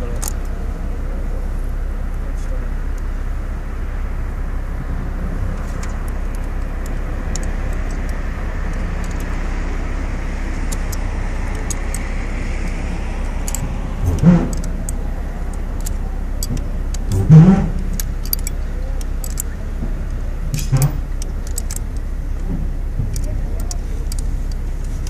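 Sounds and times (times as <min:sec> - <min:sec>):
steady outdoor rumble: 0:00.0 - 0:25.0
loud bumps: 0:04.8 - 0:25.0.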